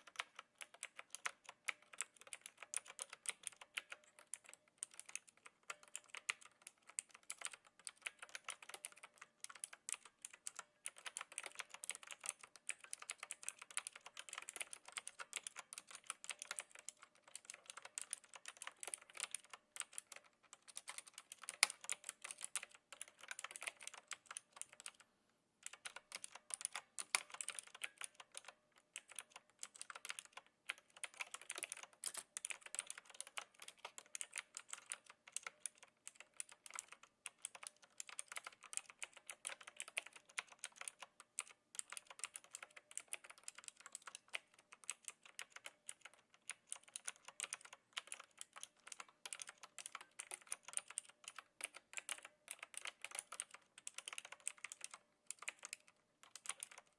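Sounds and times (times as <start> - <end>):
mechanical keyboard key clicks: 0.0 - 25.0, 25.6 - 56.9.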